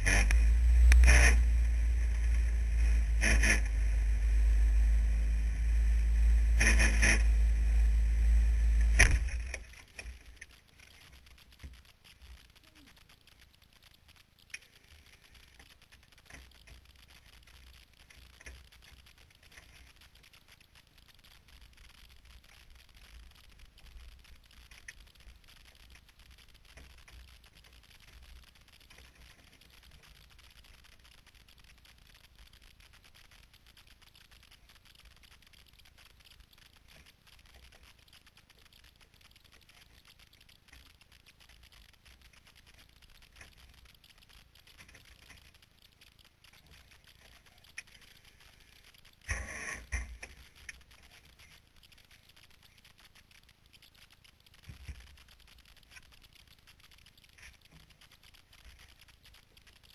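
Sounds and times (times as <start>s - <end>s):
low background noise: 0.0s - 59.9s.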